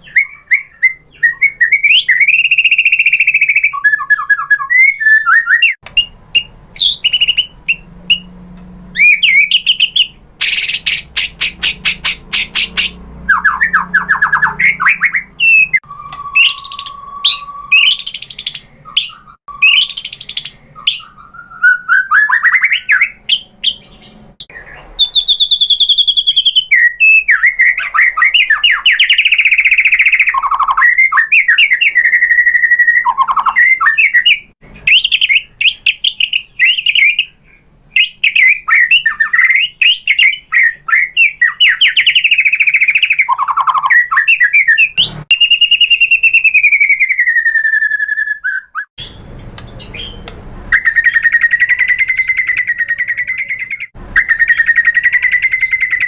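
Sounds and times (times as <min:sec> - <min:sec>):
bird singing varied phrases: 0:00.0 - 0:56.0.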